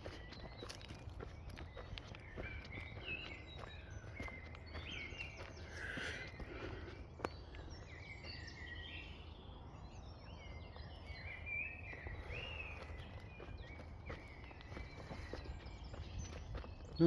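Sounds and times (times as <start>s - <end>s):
birds chirping and warbling: 0.0s - 17.0s.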